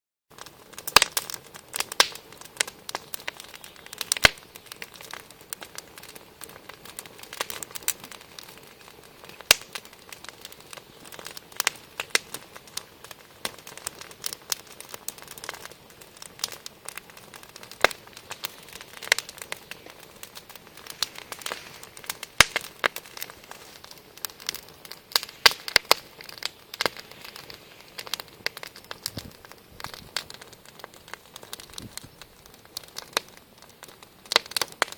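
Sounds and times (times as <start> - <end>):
campfire crackling and popping: 0.3 - 34.9
soft hiss of burning: 0.3 - 34.9.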